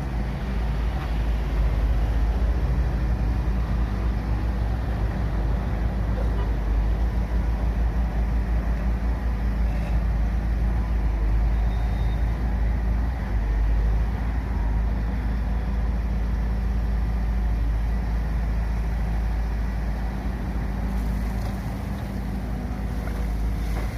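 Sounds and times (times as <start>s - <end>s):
heavy machinery engine rumbling: 0.0s - 23.9s.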